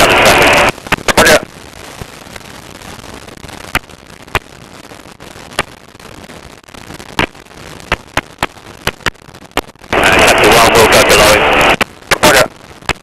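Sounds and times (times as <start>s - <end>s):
loud rush of noise: 0.0s - 13.0s
radio static hiss: 0.0s - 13.0s
sharp crackling clicks: 0.0s - 13.0s.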